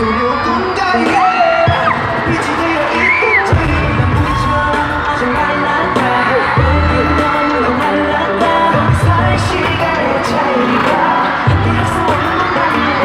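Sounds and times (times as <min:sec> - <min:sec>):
man singing: 0:00.0 - 0:13.0
pop backing track with deep bass: 0:00.0 - 0:13.0.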